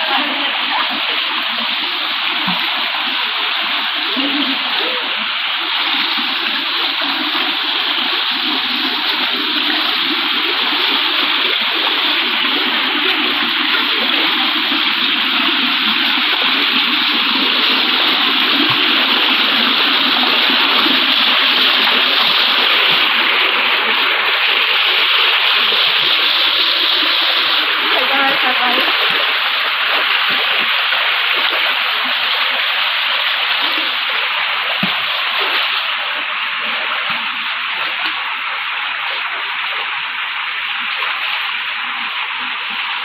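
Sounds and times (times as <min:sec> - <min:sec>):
mountain stream rushing over stones: 0:00.0 - 0:43.0
people wading and splashing: 0:00.0 - 0:43.0.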